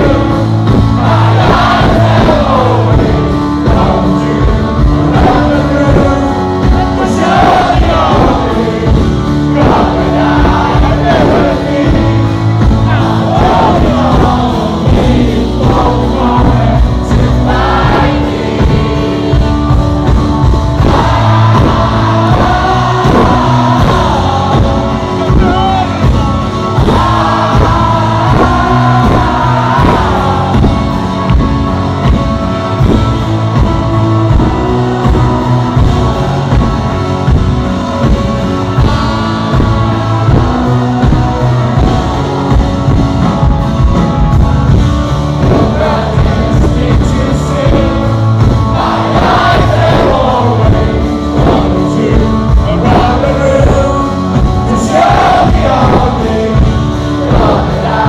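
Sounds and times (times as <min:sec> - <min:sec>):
person singing lead vocal: 0:00.0 - 0:43.6, 0:45.1 - 0:58.0
rock band playing live: 0:00.0 - 0:58.0.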